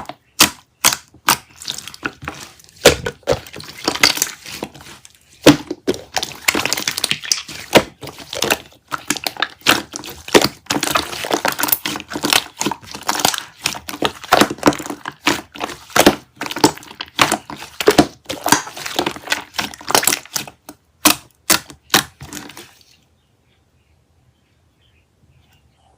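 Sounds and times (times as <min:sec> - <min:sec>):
slime squishing with crackly pops: 0:00.0 - 0:22.7.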